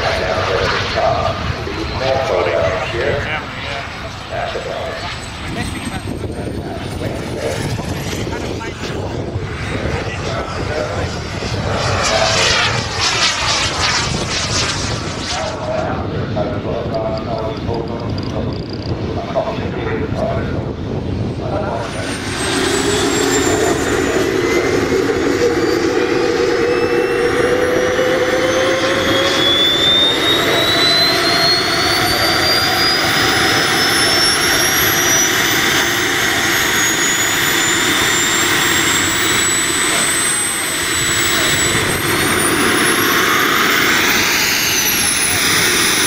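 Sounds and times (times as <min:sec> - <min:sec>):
gas turbine whine: 0:00.0 - 0:46.0.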